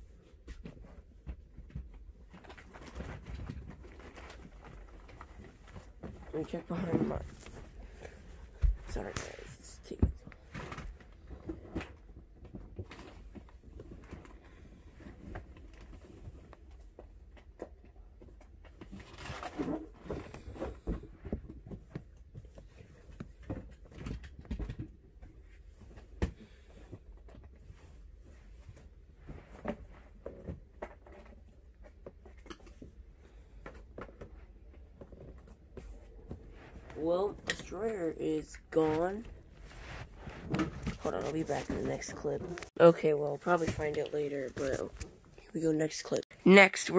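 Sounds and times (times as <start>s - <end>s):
objects rustling and knocking: 0.0s - 38.0s, 38.6s - 45.4s.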